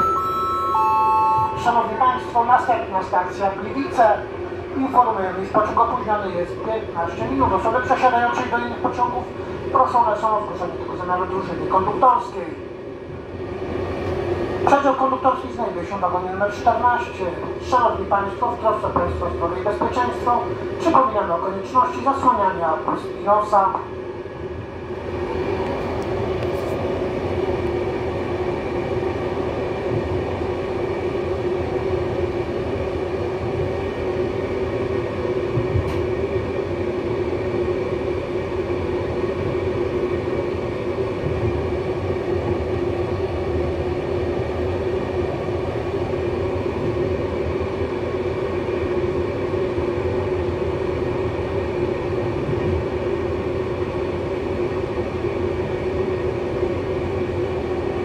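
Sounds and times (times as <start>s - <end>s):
constant hum: 0.0s - 58.0s
train wheels rumbling on rail: 0.0s - 58.0s.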